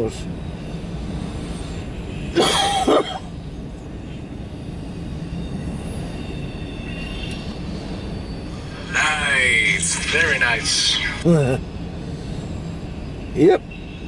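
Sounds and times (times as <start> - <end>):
faint high-pitched wheel squeal: 0.0 - 2.4, 3.0 - 11.0, 12.0 - 14.0.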